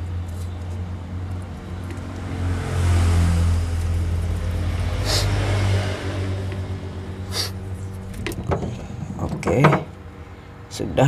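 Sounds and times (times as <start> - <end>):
vehicle engine humming: 0.0 - 10.7.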